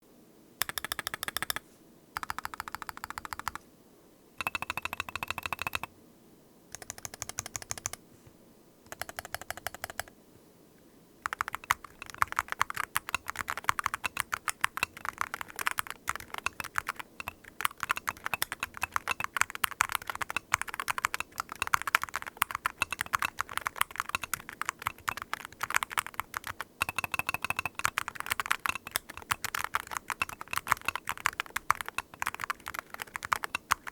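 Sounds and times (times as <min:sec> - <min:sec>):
keyboard typing: 0:00.6 - 0:01.6, 0:02.2 - 0:03.6, 0:04.4 - 0:05.9, 0:06.7 - 0:08.0, 0:08.9 - 0:10.1, 0:11.2 - 0:33.9.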